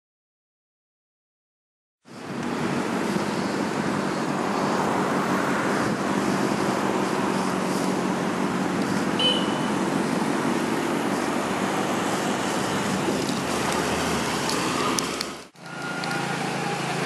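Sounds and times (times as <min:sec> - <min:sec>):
road traffic noise: 0:02.0 - 0:17.0.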